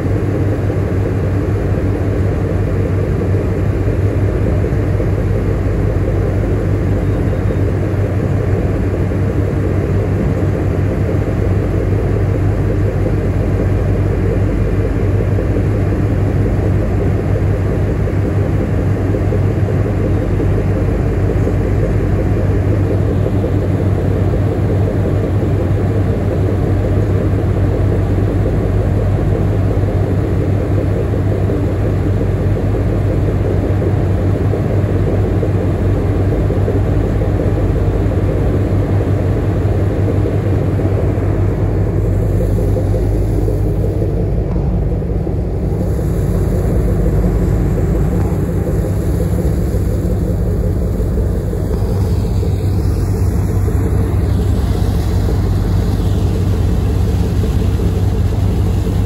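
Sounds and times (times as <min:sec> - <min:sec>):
ship machinery rumble: 0:00.0 - 0:59.0.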